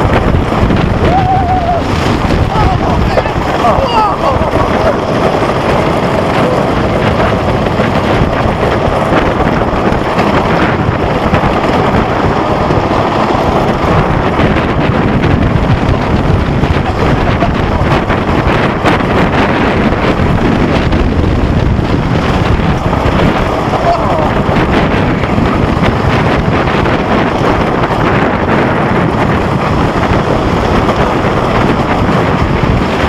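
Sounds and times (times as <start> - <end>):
roller coaster train on wooden track: 0.0 - 33.0
wind buffeting microphone: 0.0 - 33.0.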